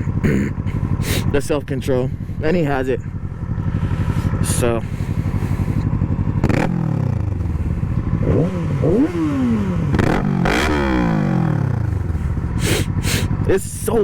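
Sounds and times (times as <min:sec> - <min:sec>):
sport bike engine braking: 0:00.0 - 0:13.6.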